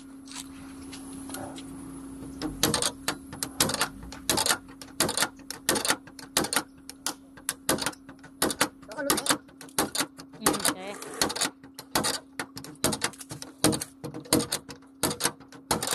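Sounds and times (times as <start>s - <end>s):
steady low hum: 0.0s - 15.9s
hand tool striking sheet metal: 2.4s - 15.9s.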